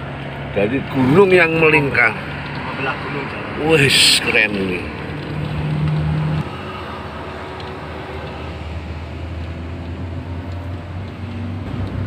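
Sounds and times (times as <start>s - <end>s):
car engine hum and road noise: 0.0s - 12.0s.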